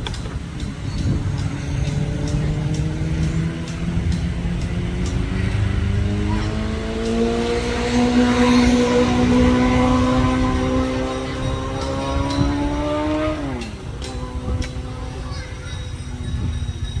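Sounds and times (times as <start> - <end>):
vehicle engine accelerating: 0.0 - 16.9.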